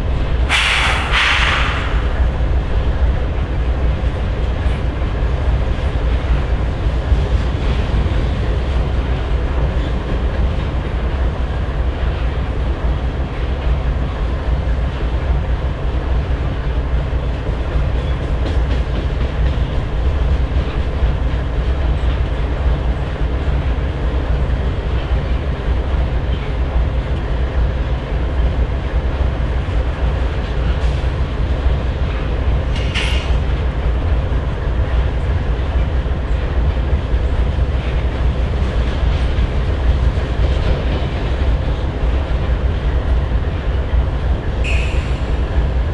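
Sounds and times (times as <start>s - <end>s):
clickety-clack over rail joints: 0.0s - 45.9s
wheels rumbling on rail: 0.0s - 45.9s.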